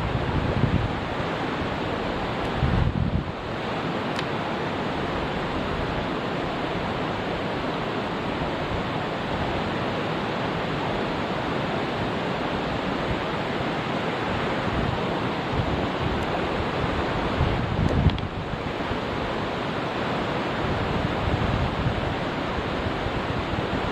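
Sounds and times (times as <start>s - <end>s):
rushing mountain stream: 0.0s - 23.9s.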